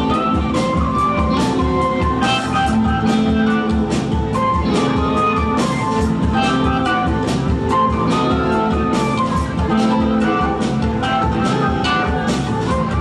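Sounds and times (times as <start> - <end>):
double bass: 0.0 - 13.0
drums: 0.0 - 13.0
electric guitar: 0.0 - 13.0
keyboard notes: 0.0 - 13.0.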